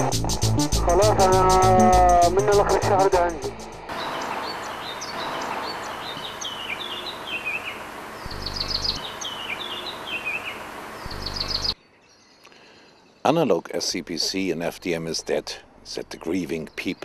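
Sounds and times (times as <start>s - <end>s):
outdoor background hiss: 1.2s - 17.0s
songbirds singing: 3.0s - 17.0s.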